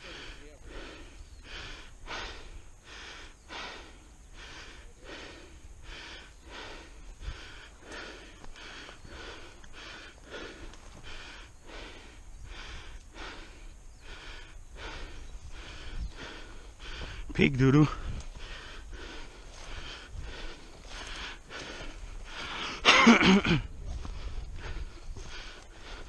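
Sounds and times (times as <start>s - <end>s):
person breathing hard: 0.0s - 26.0s.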